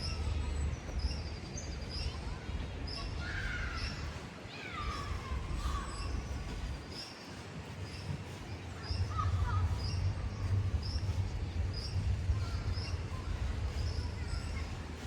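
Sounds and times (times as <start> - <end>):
birds chirping: 0.0 - 15.0
city rumble: 0.0 - 15.0.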